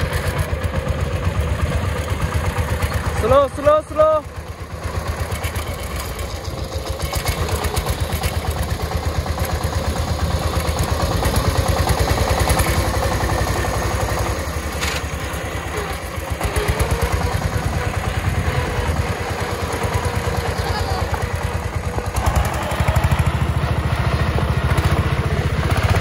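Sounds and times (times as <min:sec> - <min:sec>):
single-cylinder diesel engine running: 0:00.0 - 0:26.0.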